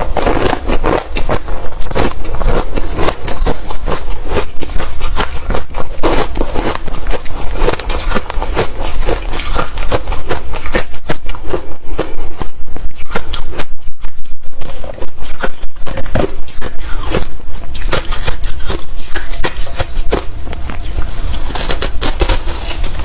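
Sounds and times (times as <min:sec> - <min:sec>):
chewing crunchy ice: 0:00.0 - 0:23.0.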